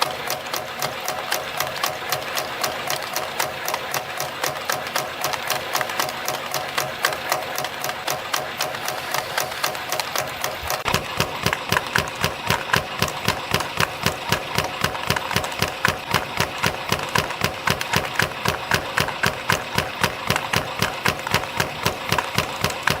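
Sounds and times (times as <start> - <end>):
spring coiling machine clacking: 0.0 - 23.0
steady mechanical hum: 0.0 - 23.0.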